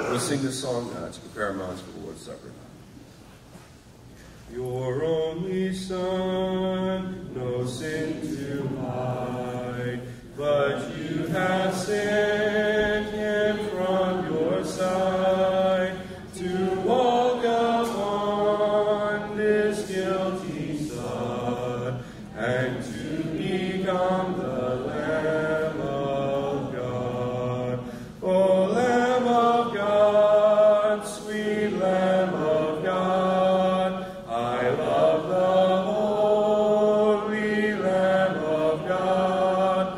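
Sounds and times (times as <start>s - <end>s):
man singing a hymn: 4.5s - 39.9s.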